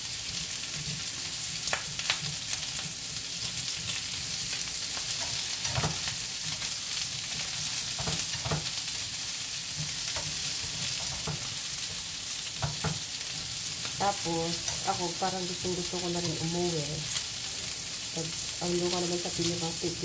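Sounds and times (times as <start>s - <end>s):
meat sizzling in a frying pan: 0.0s - 20.0s.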